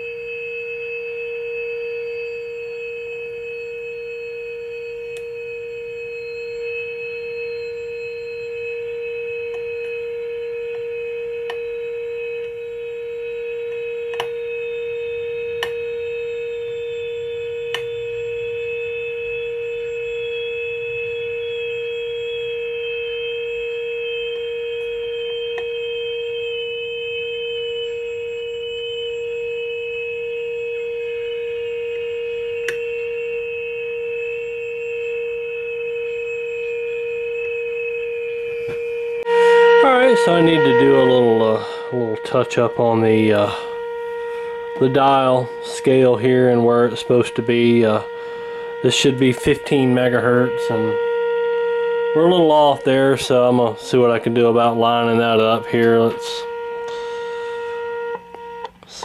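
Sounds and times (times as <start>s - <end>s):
faint falling whistle: 0.0s - 59.0s
steady test tone from speaker: 0.0s - 59.0s.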